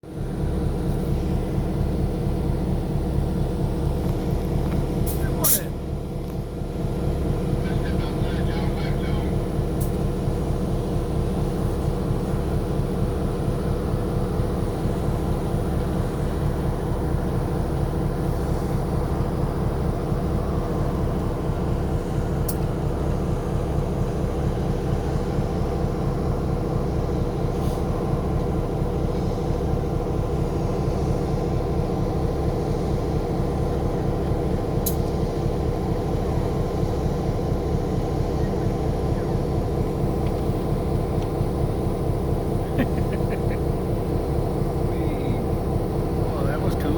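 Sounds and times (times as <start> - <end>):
engine running steadily: 0.0 - 46.9.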